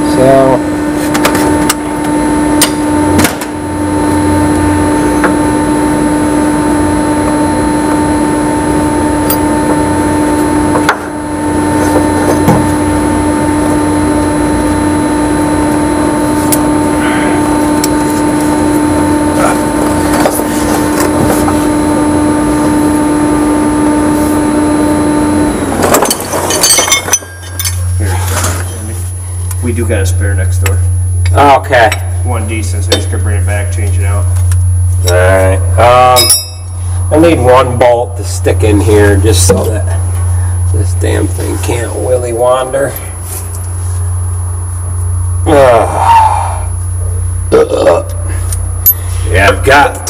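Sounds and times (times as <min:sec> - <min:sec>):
machine hum: 0:00.0 - 0:50.0.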